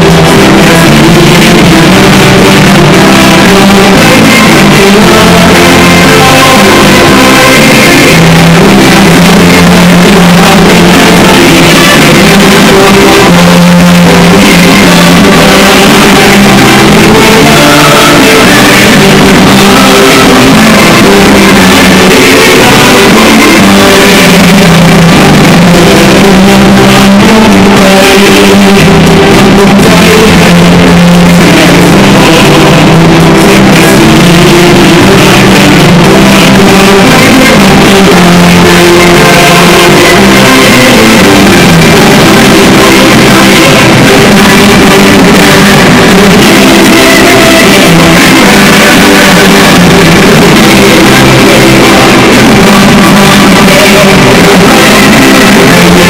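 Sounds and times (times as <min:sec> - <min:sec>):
loud music: 0:00.0 - 0:56.0.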